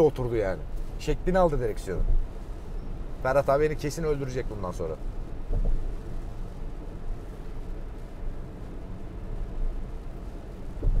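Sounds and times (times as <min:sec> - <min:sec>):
tyre and wind noise in car: 0:00.0 - 0:11.0.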